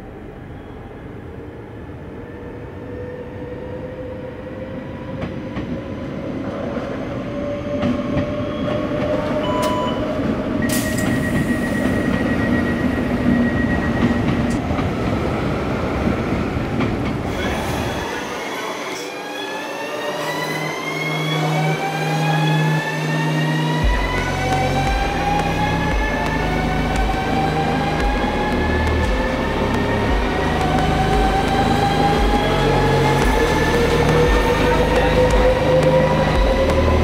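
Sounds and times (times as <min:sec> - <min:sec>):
electric train rumble and whine: 0:00.0 - 0:37.0.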